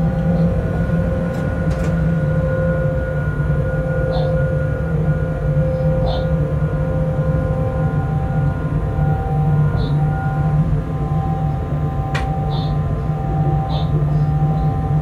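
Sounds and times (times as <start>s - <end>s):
humming tones: 0.0s - 15.0s
locomotive rumble: 0.0s - 15.0s.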